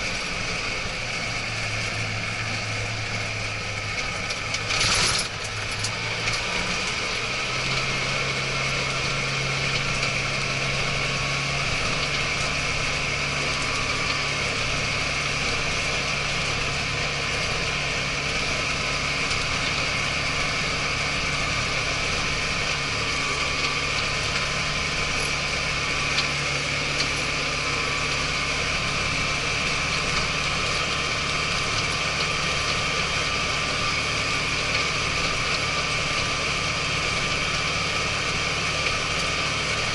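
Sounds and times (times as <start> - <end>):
crawler tracks mechanical noise: 0.0 - 39.9
diesel engine running: 0.0 - 39.9.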